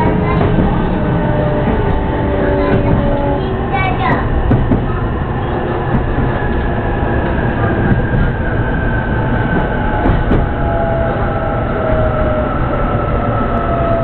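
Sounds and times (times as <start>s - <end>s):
electric train rumbling on track: 0.0s - 14.0s.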